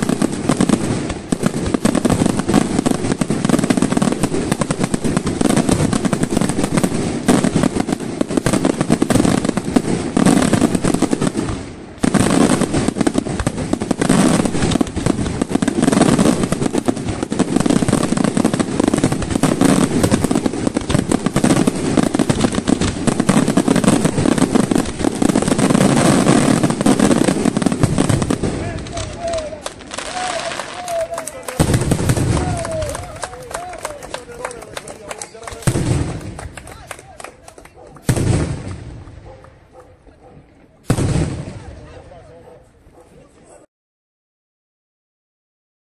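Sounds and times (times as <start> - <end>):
fireworks bursting and crackling: 0.0 - 42.4.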